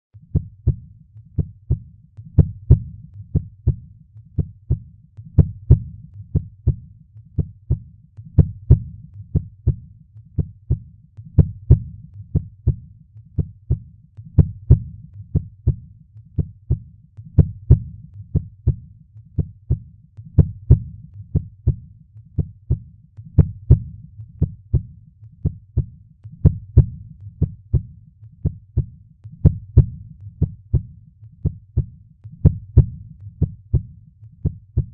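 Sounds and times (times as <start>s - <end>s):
heartbeat: 0.2s - 34.9s.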